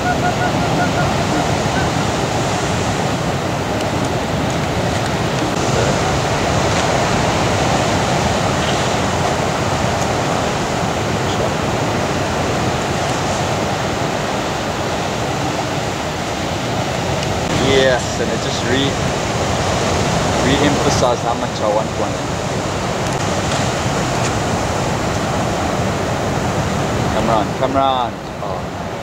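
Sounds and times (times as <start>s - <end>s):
ocean waves crashing: 0.0s - 29.0s.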